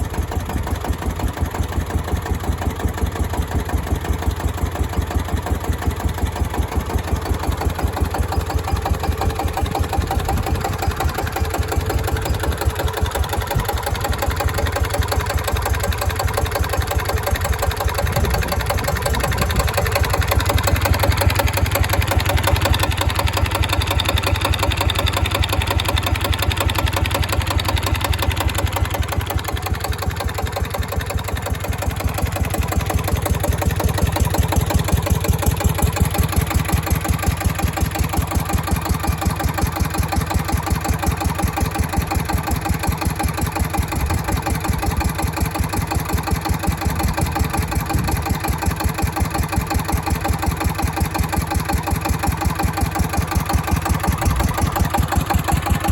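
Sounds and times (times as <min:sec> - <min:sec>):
diesel generator chugging: 0:00.0 - 0:55.9.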